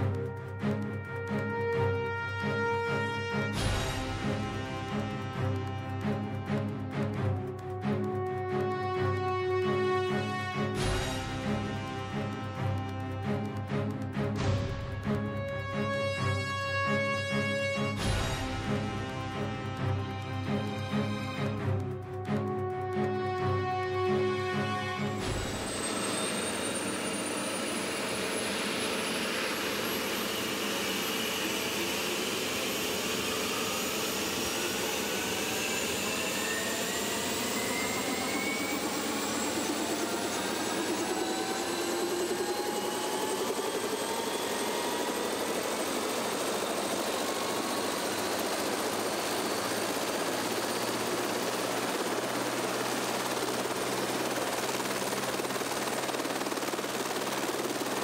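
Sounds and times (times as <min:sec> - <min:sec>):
helicopter engine and rotor noise: 0:00.0 - 0:58.0
helicopter turbine whine: 0:00.0 - 0:58.0.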